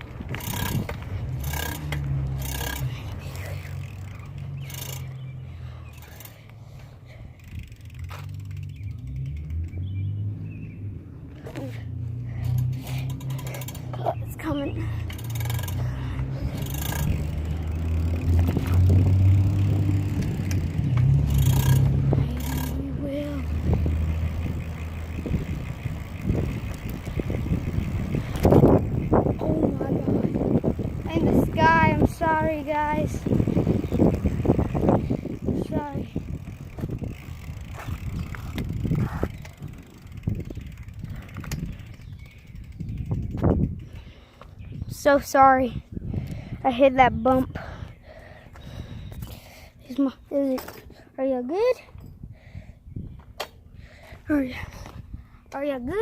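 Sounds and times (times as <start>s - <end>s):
bicycle rumble: 0.0s - 56.0s
bike clicks and rattles: 0.0s - 56.0s.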